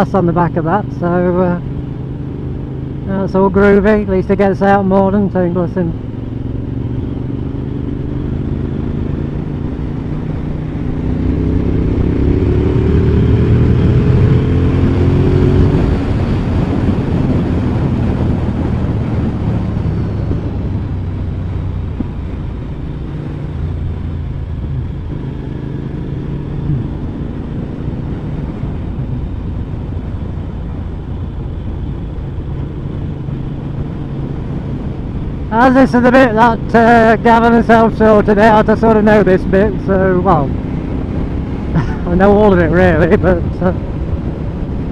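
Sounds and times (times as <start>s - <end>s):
motorcycle engine accelerating: 0.0s - 44.9s
wind and road noise: 0.0s - 44.9s.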